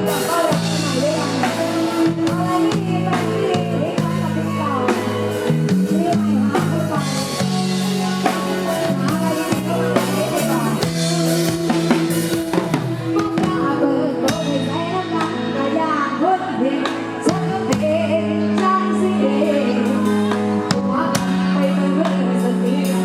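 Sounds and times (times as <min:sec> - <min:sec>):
drum kit beat: 0:00.0 - 0:23.0
live band music: 0:00.0 - 0:23.0.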